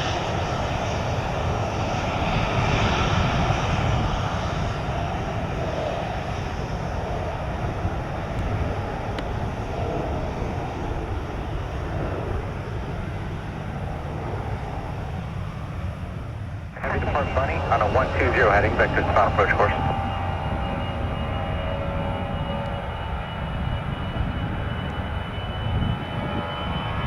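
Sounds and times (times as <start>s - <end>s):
jet engines rushing: 0.0s - 27.0s.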